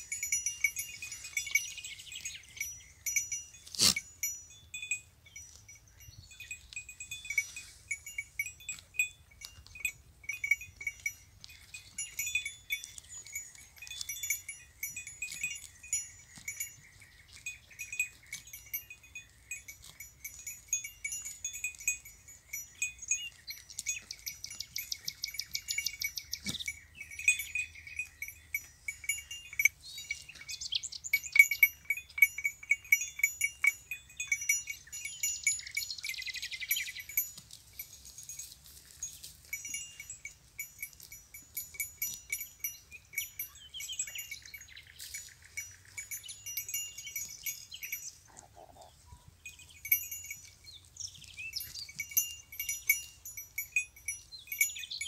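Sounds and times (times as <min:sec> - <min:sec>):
goat bells jingling: 0:00.0 - 0:55.0.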